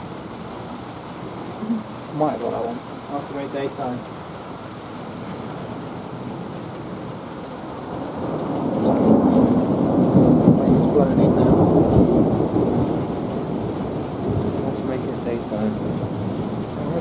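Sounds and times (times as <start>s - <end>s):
rain hissing: 0.0s - 17.0s
thunder rumbling: 0.0s - 17.0s.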